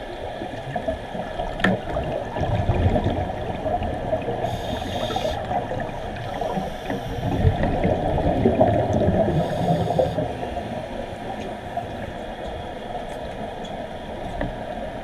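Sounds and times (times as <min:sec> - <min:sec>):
underwater bubbles gurgling: 0:00.0 - 0:15.0.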